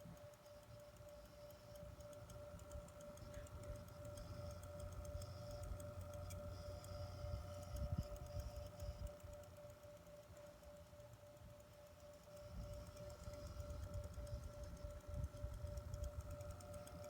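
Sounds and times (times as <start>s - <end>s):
steady whining tone: 0.0s - 17.0s.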